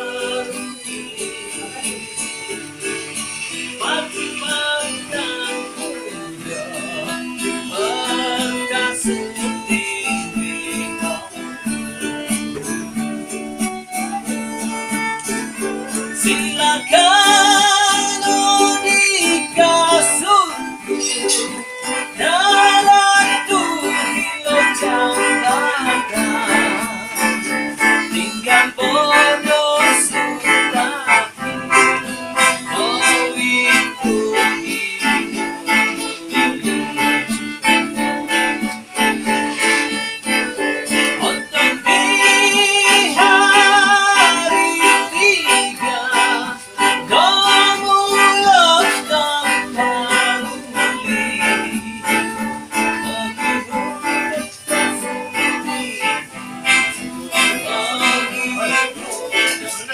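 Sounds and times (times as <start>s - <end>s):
guitar: 0.0s - 59.9s
person singing with vibrato: 0.0s - 59.9s.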